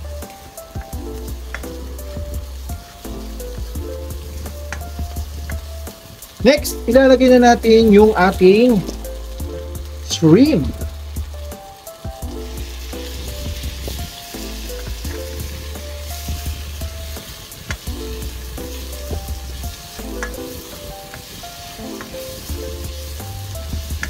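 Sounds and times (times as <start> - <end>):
background music: 0.0 - 24.0
shrimp sizzling in oil: 0.0 - 24.0.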